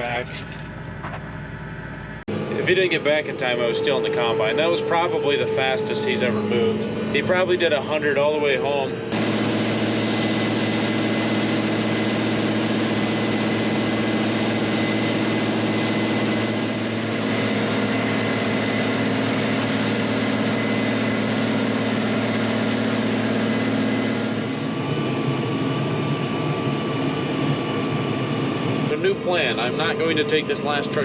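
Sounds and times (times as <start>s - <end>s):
diesel engine running: 0.0s - 31.0s
thin high whine: 0.0s - 31.0s.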